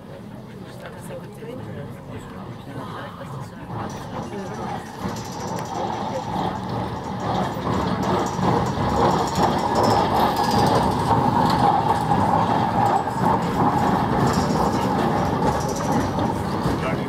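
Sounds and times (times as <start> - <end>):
electric train rolling past: 1.9 - 17.0.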